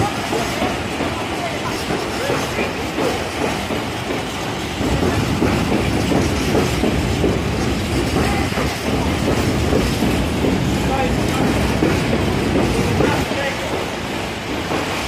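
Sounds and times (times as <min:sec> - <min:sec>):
freight train rumble: 0:00.0 - 0:15.0
wheels clacking over rail joints: 0:00.0 - 0:15.0.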